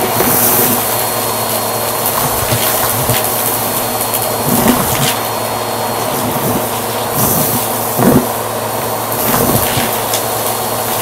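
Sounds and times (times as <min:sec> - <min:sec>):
debris rattling up vacuum hose: 0:00.0 - 0:11.0
vacuum cleaner suction rush: 0:00.0 - 0:11.0.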